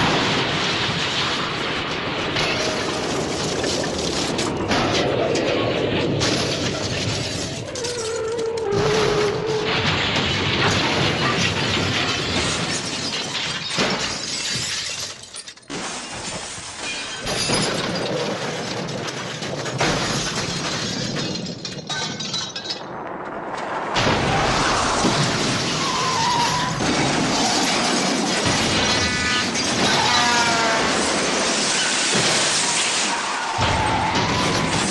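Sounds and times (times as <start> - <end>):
cartoon crashing and shattering: 0.0 - 23.0, 23.9 - 34.9.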